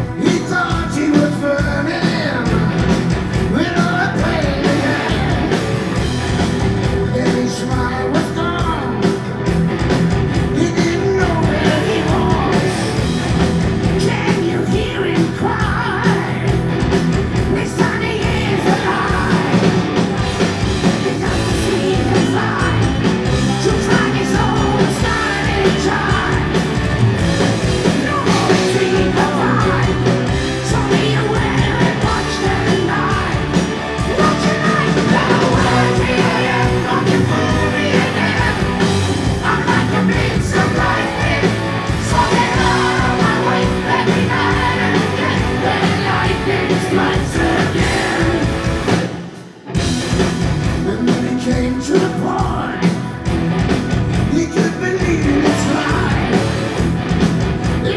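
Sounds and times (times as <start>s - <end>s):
man singing lead vocal: 0.0s - 5.7s, 6.9s - 9.2s, 10.4s - 13.1s, 13.8s - 16.7s, 17.4s - 19.8s, 20.8s - 26.7s, 27.6s - 49.0s, 50.8s - 53.3s, 54.2s - 56.6s
heavy metal band playing live: 0.0s - 57.9s.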